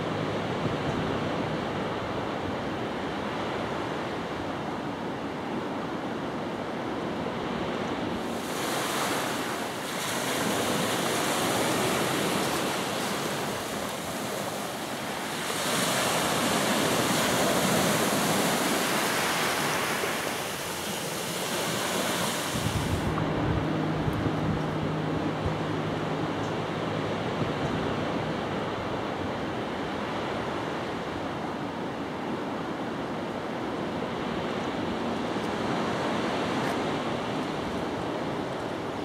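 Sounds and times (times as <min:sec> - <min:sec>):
surf breaking on a beach: 0:00.0 - 0:39.0
wind buffeting microphone: 0:07.3 - 0:39.0.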